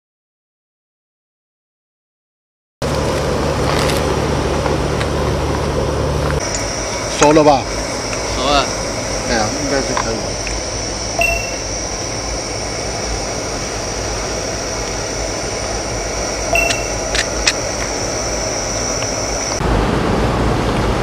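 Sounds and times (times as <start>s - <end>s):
rushing background noise: 2.8s - 21.0s.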